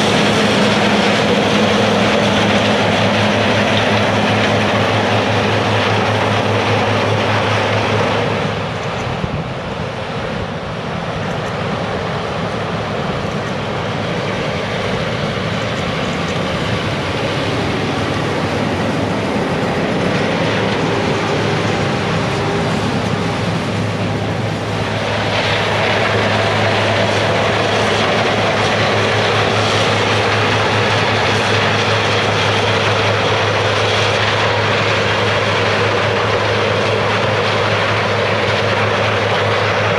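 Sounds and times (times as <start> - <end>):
farm machinery engine droning: 0.0 - 39.9.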